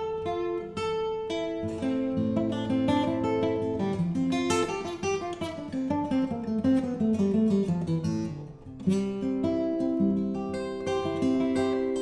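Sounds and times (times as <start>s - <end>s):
acoustic guitar picked notes: 0.0s - 12.0s.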